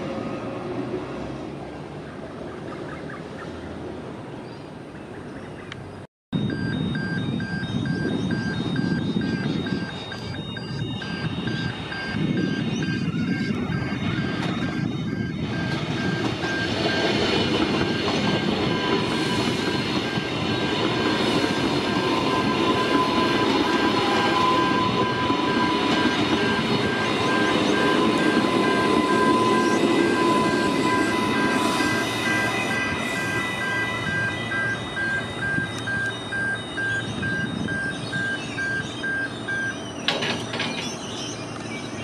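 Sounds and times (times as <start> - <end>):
level crossing bells ringing: 6.4 - 41.0
train wheels rumbling on track: 6.4 - 42.0.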